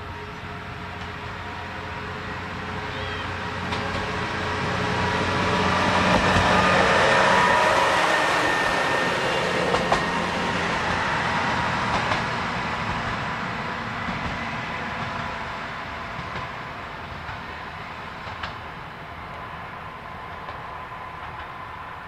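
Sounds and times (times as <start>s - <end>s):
diesel railcar passing: 0.0s - 22.0s.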